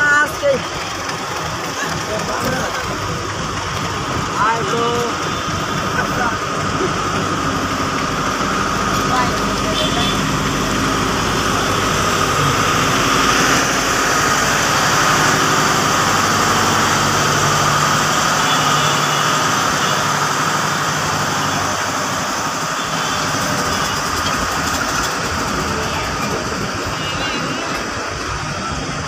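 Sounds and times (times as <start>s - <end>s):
diesel generator running: 0.0s - 29.0s
train wheels on rails: 0.0s - 29.0s.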